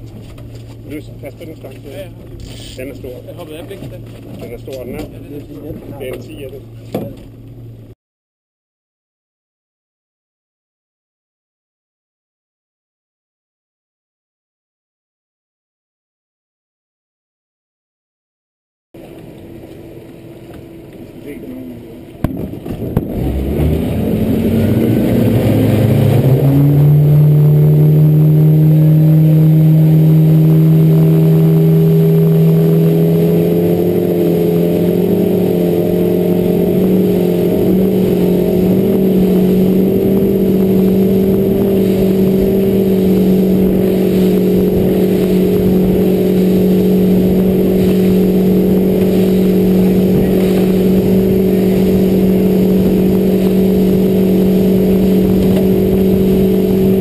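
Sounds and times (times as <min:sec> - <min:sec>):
motorboat engine accelerating: 0:00.0 - 0:08.0, 0:19.0 - 0:57.0.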